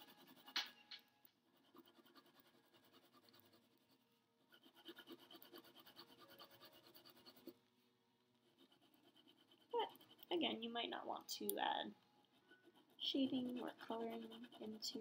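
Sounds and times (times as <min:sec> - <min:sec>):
pencil scratching on paper: 0:00.0 - 0:07.6, 0:08.4 - 0:11.4, 0:12.2 - 0:15.0.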